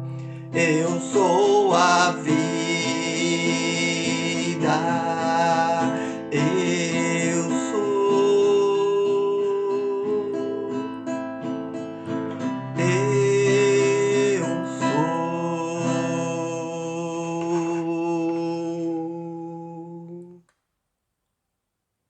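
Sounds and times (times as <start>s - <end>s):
acoustic guitar music: 0.0s - 20.4s.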